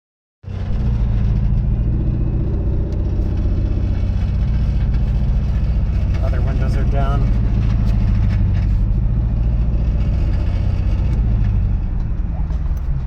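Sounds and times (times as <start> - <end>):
loud unsilenced car exhaust: 0.5 - 13.0.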